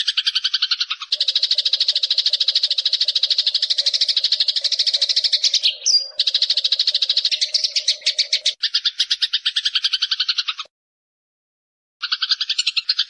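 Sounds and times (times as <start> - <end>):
sparrows chirping rapidly: 0.0 - 10.7, 12.0 - 13.0.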